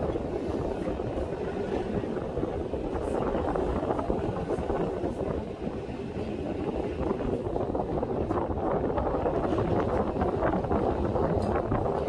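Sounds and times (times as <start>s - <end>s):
tram running: 0.0s - 12.0s
wind buffeting microphone: 0.0s - 12.0s.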